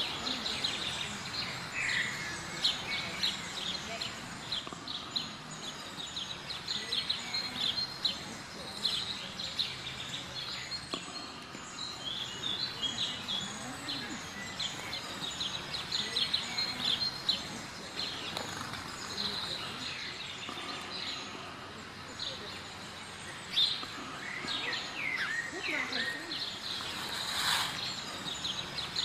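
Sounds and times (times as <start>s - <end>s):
songbirds chirping: 0.0s - 29.0s
steady background hiss: 0.0s - 29.0s.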